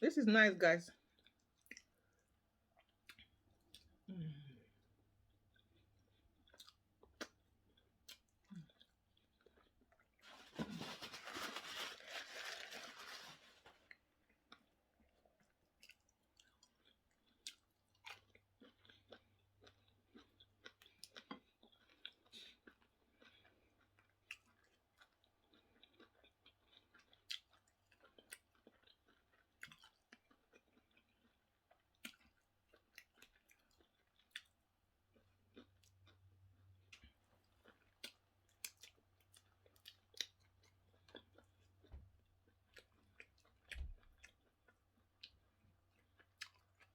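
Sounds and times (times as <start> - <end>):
person chewing food: 1.0 - 11.0, 12.4 - 46.9.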